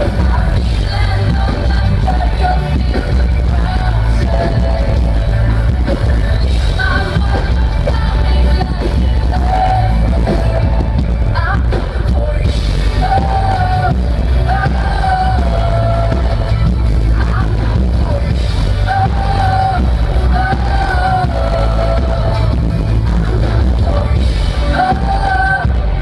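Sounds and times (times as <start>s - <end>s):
heavy steady bass: 0.0s - 26.0s
singer holding long notes: 0.0s - 26.0s
synth-pop band playing live: 0.0s - 26.0s.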